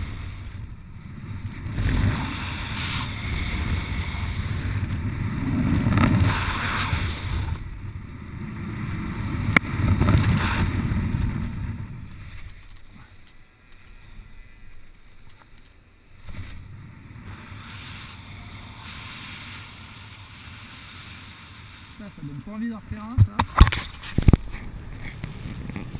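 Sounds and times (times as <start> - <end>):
airflow rushing over microphone: 0.0 - 13.2, 16.0 - 25.9.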